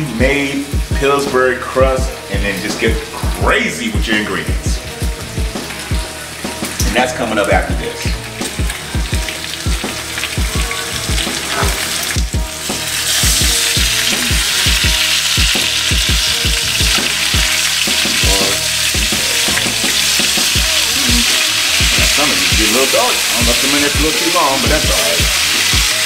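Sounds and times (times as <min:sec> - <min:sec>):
chicken wings sizzling in skillet: 0:00.0 - 0:26.0.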